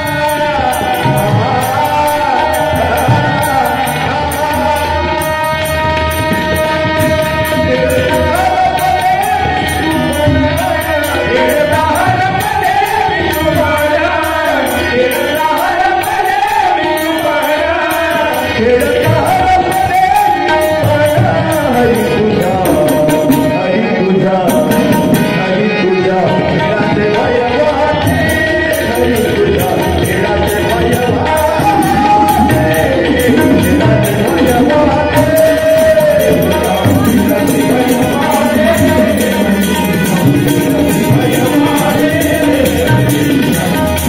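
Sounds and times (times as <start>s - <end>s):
harmonium: 0.0s - 44.0s
men singing: 0.0s - 44.0s
tabla: 0.0s - 44.0s.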